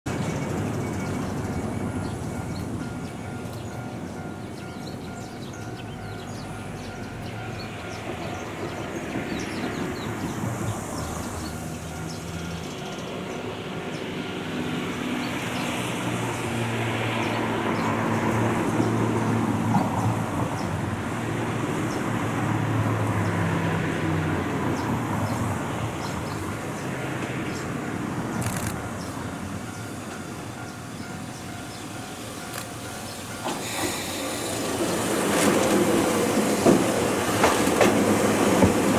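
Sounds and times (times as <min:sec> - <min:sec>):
electric train approaching: 0:00.1 - 0:38.9.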